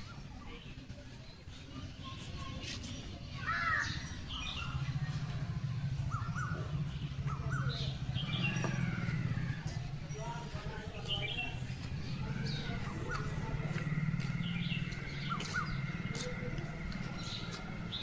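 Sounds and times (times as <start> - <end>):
birds calling: 0.0 - 18.0
birds chirping: 0.0 - 18.0.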